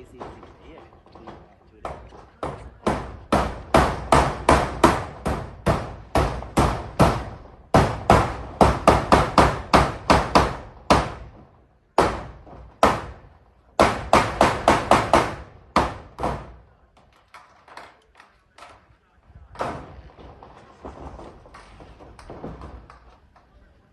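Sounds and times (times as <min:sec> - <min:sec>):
hammer striking nails on metal roof: 0:00.0 - 0:18.8, 0:19.5 - 0:23.6.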